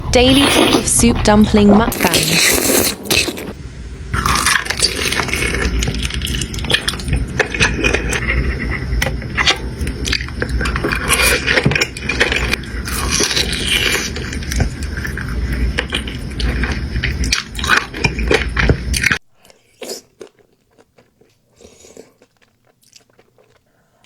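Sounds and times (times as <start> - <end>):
wet chewing and mouth sounds: 1.9 - 3.6, 4.2 - 24.0.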